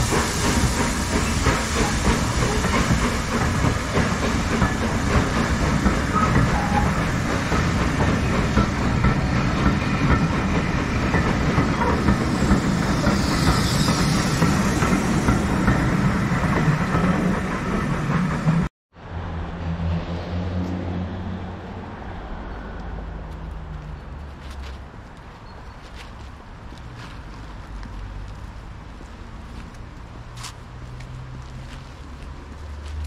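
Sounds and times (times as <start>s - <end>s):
train wheels rumbling on rails: 0.0s - 18.7s, 19.6s - 33.0s.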